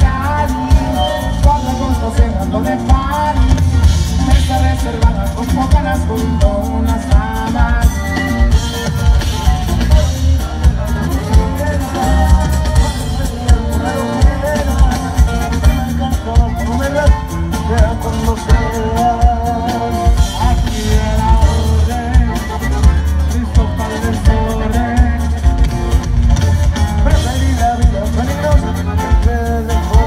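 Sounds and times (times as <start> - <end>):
person singing: 0.0 - 25.9
button accordion: 0.0 - 30.0
drum kit steady beat: 0.0 - 30.0.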